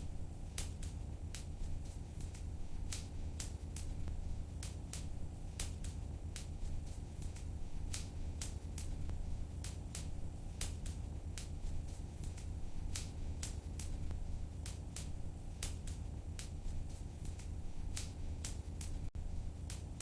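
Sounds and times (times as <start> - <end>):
fire crackles and pops: 0.0 - 20.0.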